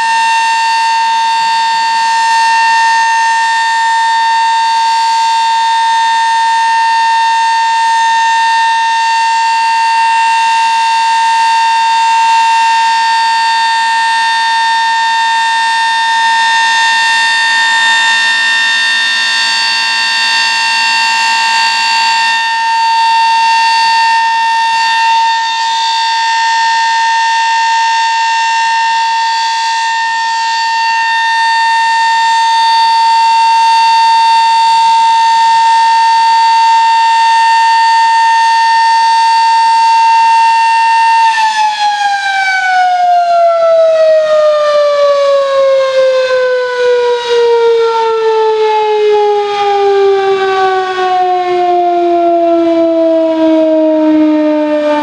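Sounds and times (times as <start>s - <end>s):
siren steady tone: 0.0s - 55.0s
siren winding down: 0.0s - 55.0s.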